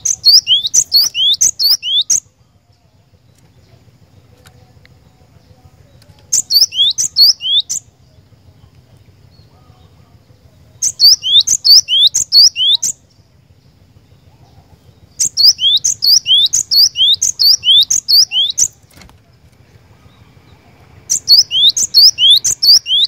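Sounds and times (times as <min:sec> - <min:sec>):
bird singing whistled notes: 0:00.0 - 0:03.4, 0:04.1 - 0:18.9, 0:19.8 - 0:23.0.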